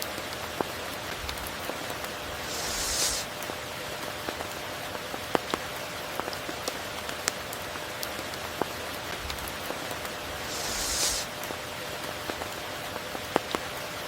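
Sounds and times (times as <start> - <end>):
raindrops ticking nearby: 0.0 - 2.6, 3.2 - 10.5, 11.4 - 14.0
steady rain falling: 0.0 - 14.0.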